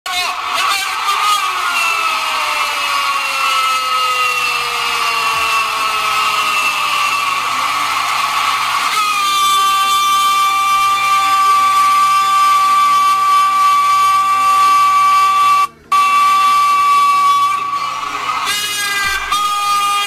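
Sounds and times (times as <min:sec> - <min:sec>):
stadium crowd noise: 0:00.1 - 0:20.0.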